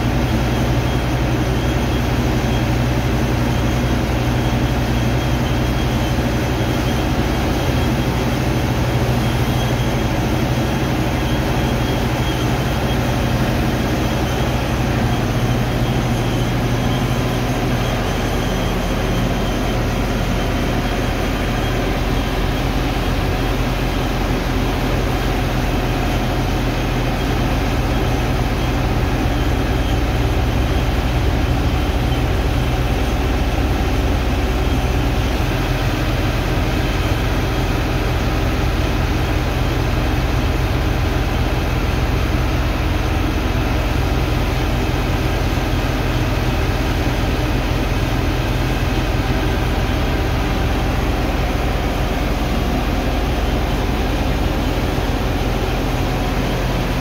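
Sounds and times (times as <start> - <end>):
pump engine droning: 0.0 - 57.0.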